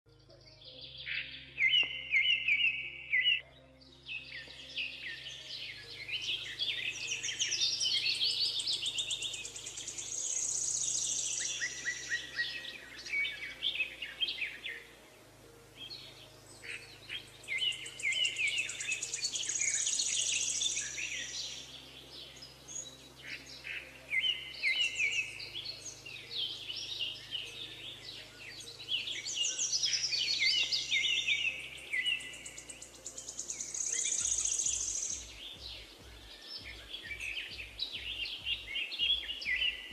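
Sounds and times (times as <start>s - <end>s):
songbirds singing and chirping: 0.1s - 39.9s.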